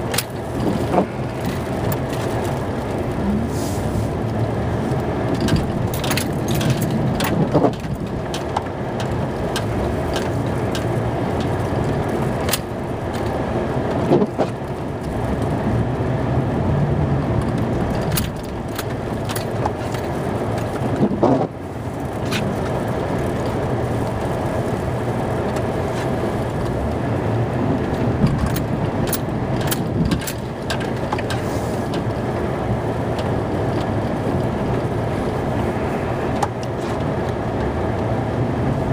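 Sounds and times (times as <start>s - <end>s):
snow plow engine running: 0.0s - 38.9s.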